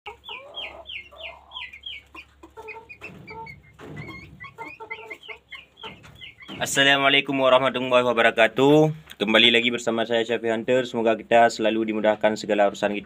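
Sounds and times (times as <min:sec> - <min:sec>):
chickens clucking: 0:00.1 - 0:13.0
chicks peeping: 0:00.1 - 0:13.0.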